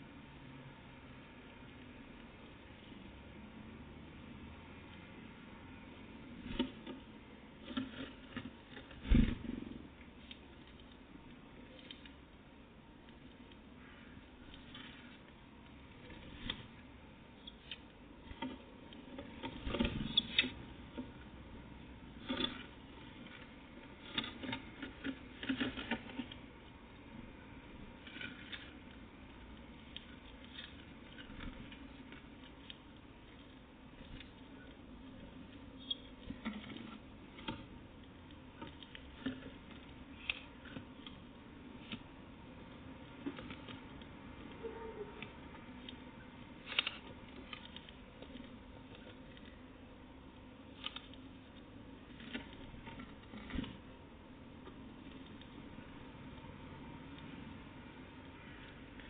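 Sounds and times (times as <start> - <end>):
faint steady background noise: 0.0 - 59.0.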